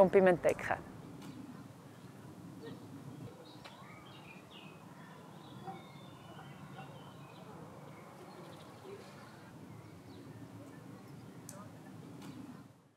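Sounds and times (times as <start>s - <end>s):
low steady background noise: 0.0s - 12.9s
small birds chirping: 1.0s - 12.8s.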